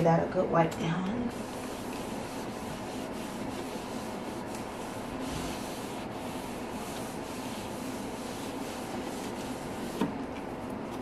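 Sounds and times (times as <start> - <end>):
cloth wiping a shelf: 1.3 - 10.2.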